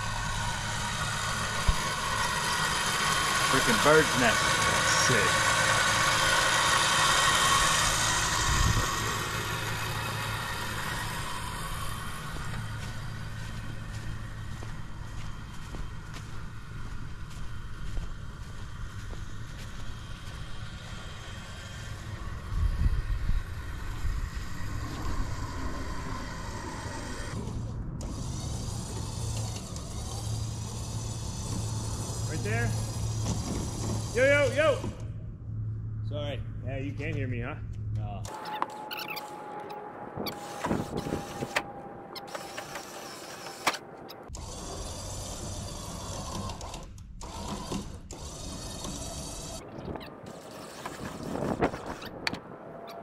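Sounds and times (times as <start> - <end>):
electric winch motor whine: 0.0 - 36.0, 38.2 - 53.0
truck engine idling: 0.0 - 50.9.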